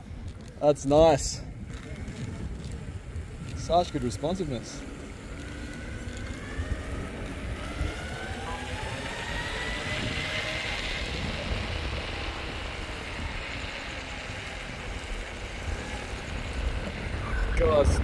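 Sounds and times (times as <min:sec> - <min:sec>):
wind on microphone: 0:00.0 - 0:18.0
electric motor whining: 0:01.6 - 0:18.0.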